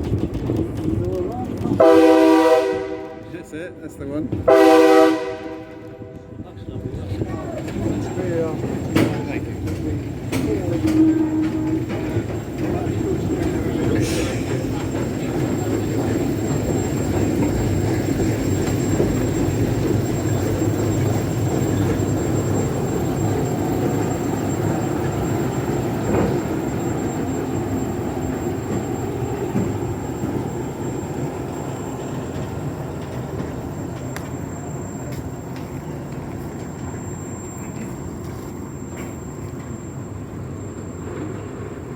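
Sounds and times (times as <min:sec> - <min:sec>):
locomotive rumble: 0:00.0 - 0:41.9.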